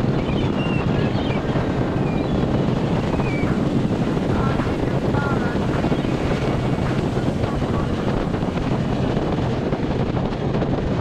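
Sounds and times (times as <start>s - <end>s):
motorcycle engine and road rumble: 0.0s - 11.0s
wind rushing over microphone: 0.0s - 11.0s.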